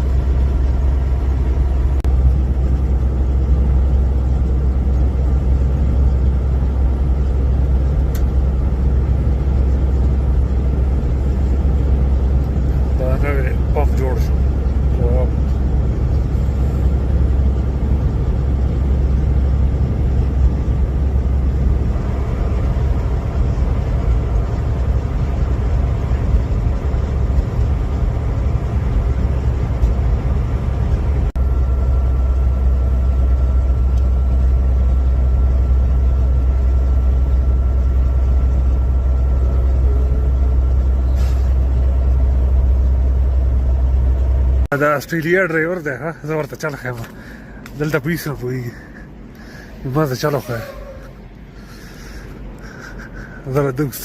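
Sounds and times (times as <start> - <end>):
road noise: 0.0 - 54.0
vehicle engine rumble: 0.0 - 54.0.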